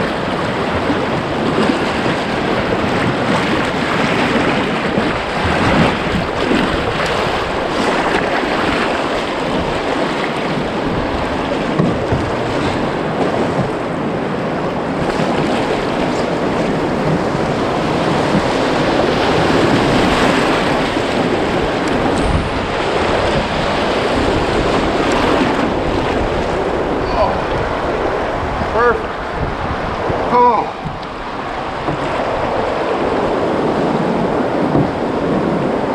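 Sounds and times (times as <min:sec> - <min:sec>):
whitewater rushing: 0:00.0 - 0:35.9.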